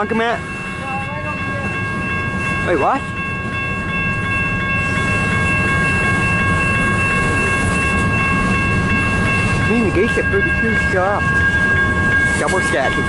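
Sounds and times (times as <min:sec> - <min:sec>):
freight train rumbling past: 0:00.0 - 0:13.0
high-pitched steady tones: 0:00.0 - 0:13.0.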